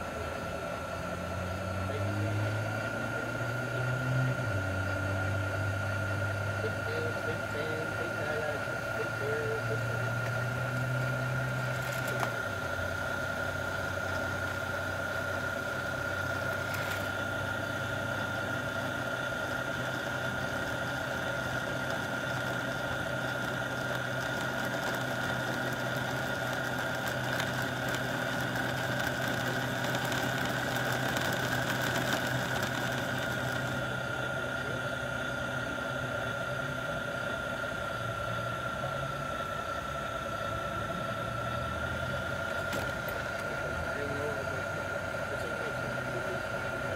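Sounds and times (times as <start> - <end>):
model train motor whining: 0.0 - 46.9.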